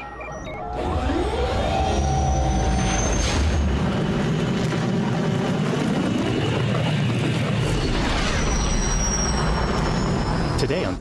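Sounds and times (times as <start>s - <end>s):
spaceship engine rumble with whooshes: 0.4s - 11.0s.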